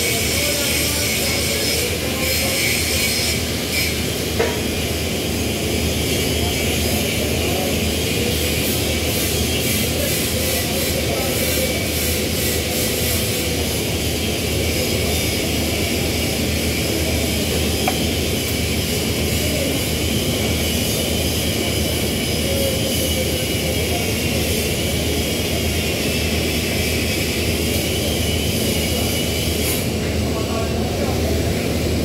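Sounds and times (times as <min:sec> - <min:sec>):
workshop machinery roaring: 0:00.0 - 0:32.0.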